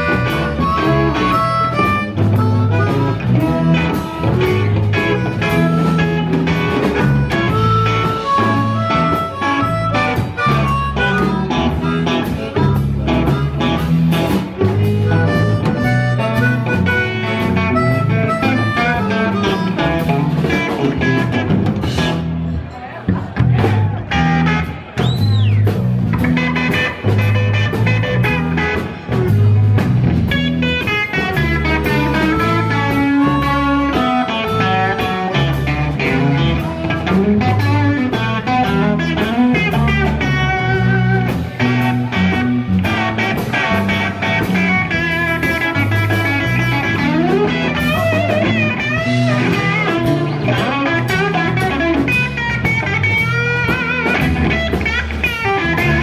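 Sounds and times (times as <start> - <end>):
harmonica bending notes: 0.0 - 22.0, 24.1 - 56.0
bass guitar: 0.0 - 56.0
drum kit: 0.0 - 56.0
electric guitar: 0.0 - 56.0.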